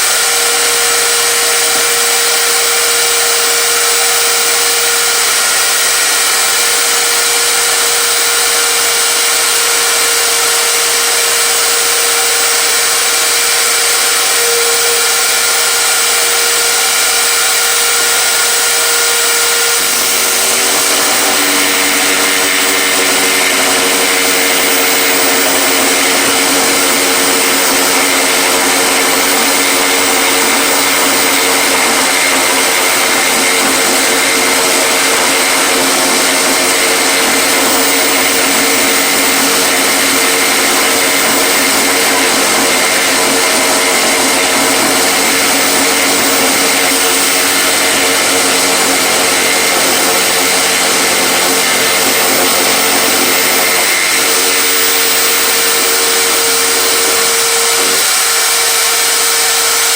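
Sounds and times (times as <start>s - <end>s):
power tool motor running: 0.0s - 59.9s.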